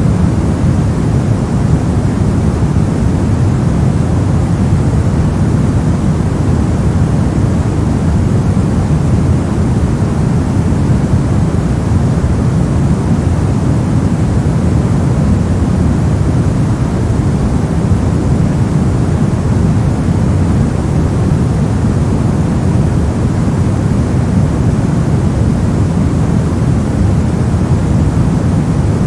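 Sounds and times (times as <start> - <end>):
deep white noise hiss: 0.0 - 29.0.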